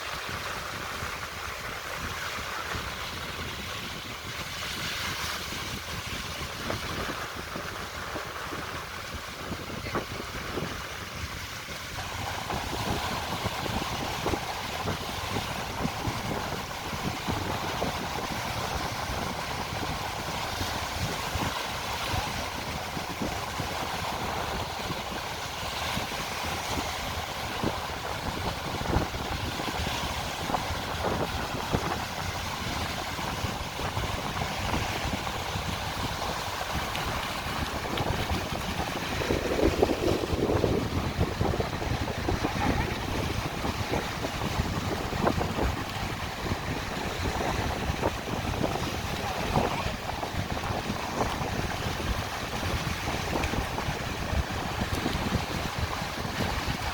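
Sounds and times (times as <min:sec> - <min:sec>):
sea waves: 0:00.0 - 0:56.9
wind buffeting microphone: 0:00.0 - 0:56.9.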